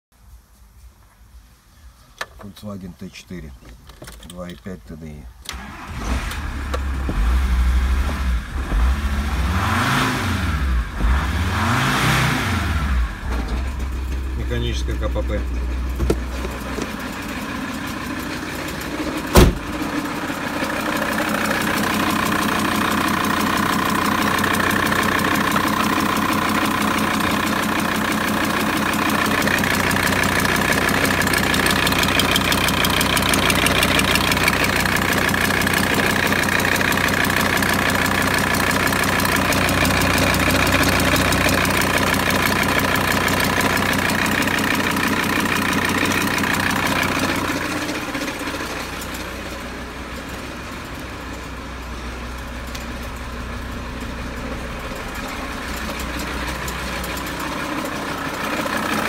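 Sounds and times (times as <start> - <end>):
diesel engine idling: 5.0 - 59.0.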